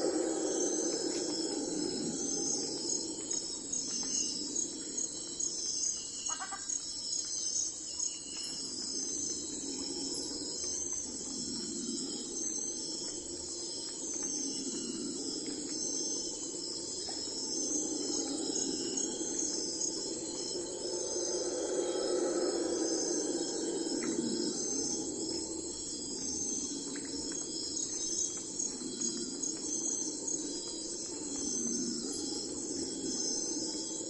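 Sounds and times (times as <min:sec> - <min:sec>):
low hum: 0:00.0 - 0:05.1, 0:09.0 - 0:34.0
insects chirping: 0:00.0 - 0:34.0.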